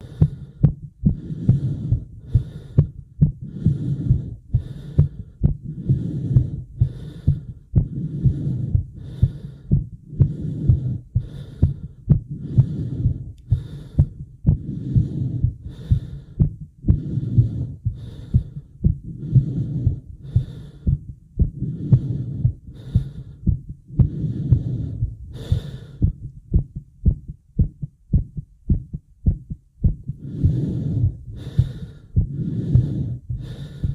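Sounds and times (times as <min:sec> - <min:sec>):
fast heartbeat: 0:00.0 - 0:33.9
person breathing heavily: 0:00.0 - 0:33.9.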